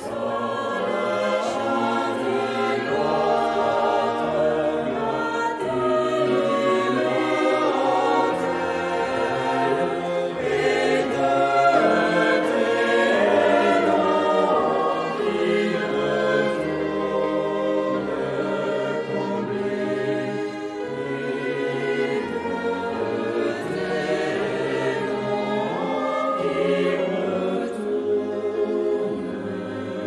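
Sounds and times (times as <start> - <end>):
choir singing sustained notes: 0.0 - 30.0.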